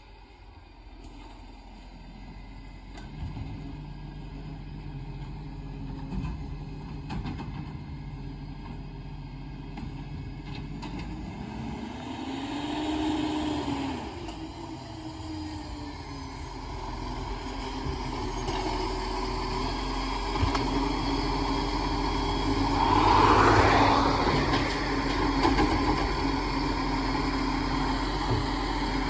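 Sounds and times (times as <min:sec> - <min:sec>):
garbage truck diesel engine: 0:00.0 - 0:29.0.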